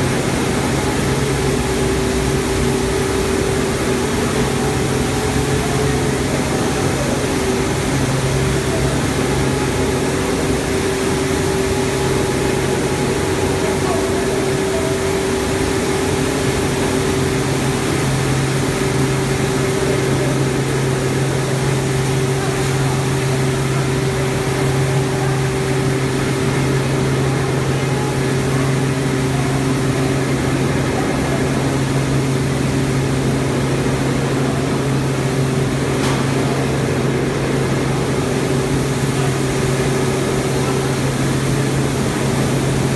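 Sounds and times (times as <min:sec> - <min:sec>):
milling machines droning: 0:00.0 - 0:42.9.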